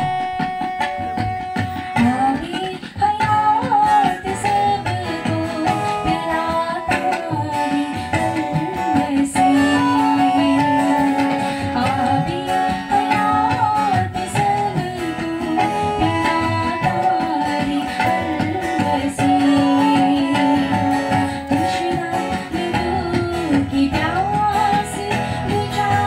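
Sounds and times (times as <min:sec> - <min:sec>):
acoustic guitar: 0:00.0 - 0:26.0
woman singing into a microphone: 0:00.0 - 0:26.0.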